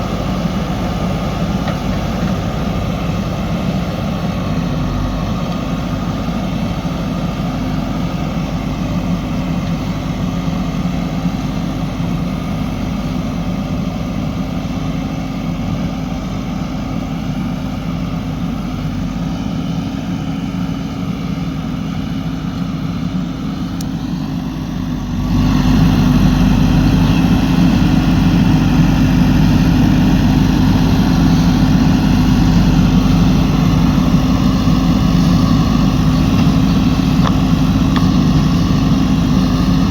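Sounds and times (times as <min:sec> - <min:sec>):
backhoe diesel engine revving: 0:00.0 - 0:39.9.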